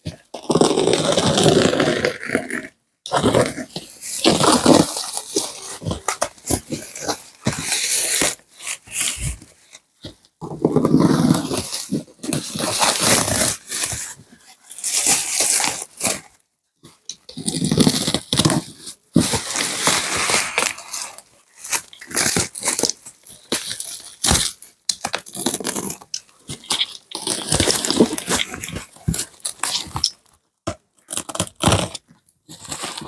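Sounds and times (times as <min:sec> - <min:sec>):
packaging tearing and crumpling: 0:00.4 - 0:09.4, 0:10.8 - 0:14.1, 0:14.7 - 0:16.2, 0:17.3 - 0:30.2, 0:31.1 - 0:33.0.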